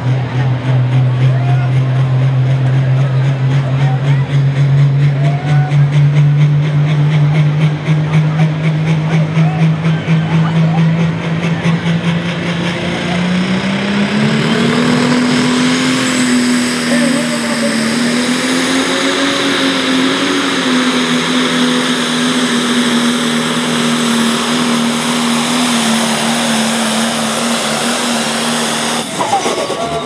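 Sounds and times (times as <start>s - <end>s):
tractor diesel engine at full power: 0.0s - 30.0s.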